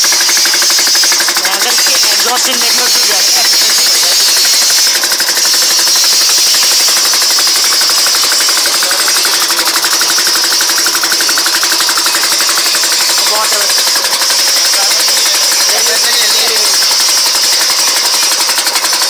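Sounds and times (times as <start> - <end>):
small engine chattering: 0.0 - 19.0.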